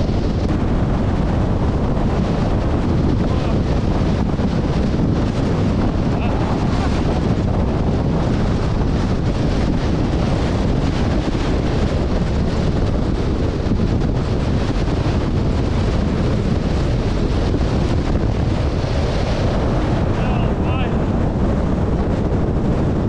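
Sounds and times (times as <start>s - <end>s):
storm wind buffeting microphone: 0.0s - 23.0s.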